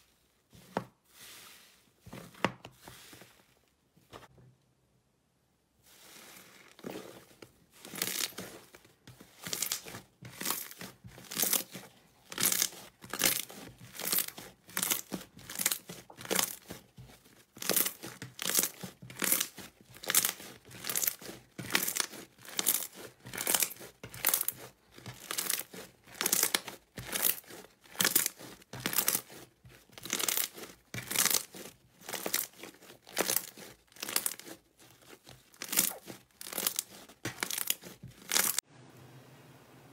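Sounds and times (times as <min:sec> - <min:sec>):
slime squelching when kneaded: 0:05.9 - 0:38.6.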